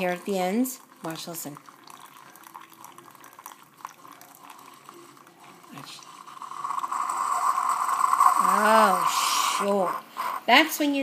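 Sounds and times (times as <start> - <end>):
coffee maker sputtering air purge: 0.0 - 11.0.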